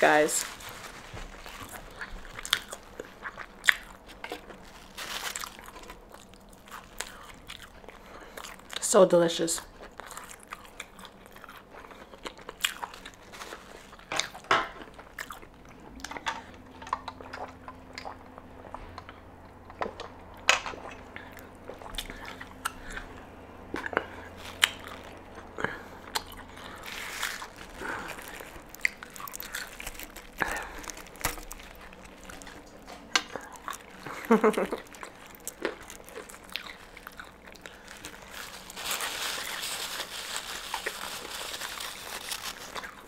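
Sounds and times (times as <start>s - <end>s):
crunchy chewing: 0.1s - 8.8s, 9.7s - 20.2s, 20.8s - 43.0s.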